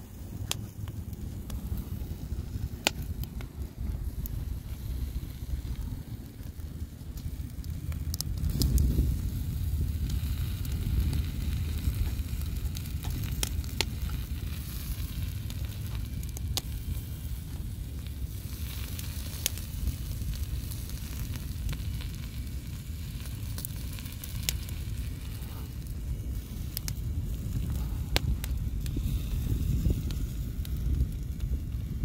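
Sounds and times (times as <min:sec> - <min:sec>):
food sizzling on a charcoal grill: 0:00.0 - 0:32.0
steady low rumble: 0:00.0 - 0:32.0.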